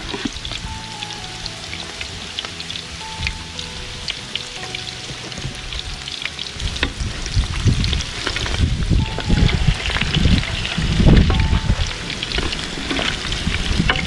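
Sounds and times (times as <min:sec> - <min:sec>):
deep-frying sizzling and popping: 0:00.0 - 0:14.0.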